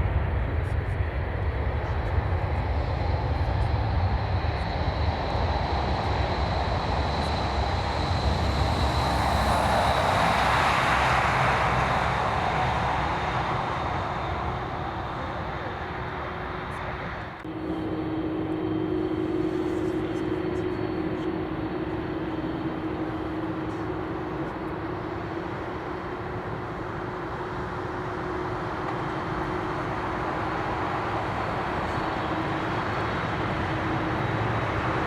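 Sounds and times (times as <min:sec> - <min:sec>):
jet engines passing: 0:00.0 - 0:35.0.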